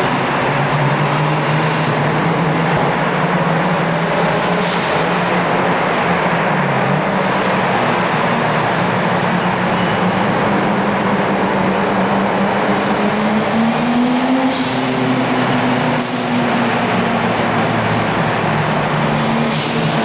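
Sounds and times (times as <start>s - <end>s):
traffic echoing in tunnel: 0.0s - 20.0s.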